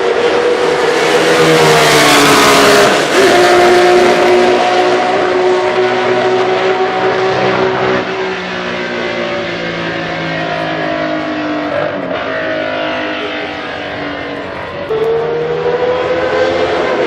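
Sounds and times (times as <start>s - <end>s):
racing car engine at high revs: 0.0s - 17.0s.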